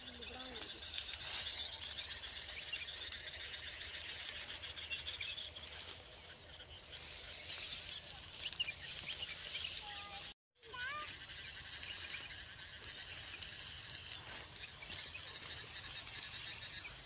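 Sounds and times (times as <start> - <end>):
footsteps through dry straw: 0.0 - 17.0
insects trilling: 0.0 - 17.0.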